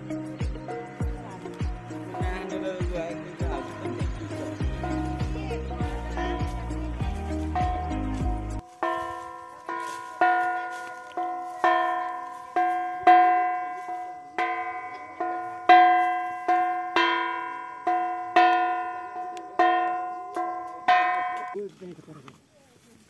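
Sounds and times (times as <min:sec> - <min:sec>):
hand bell ringing: 0:00.4 - 0:21.6.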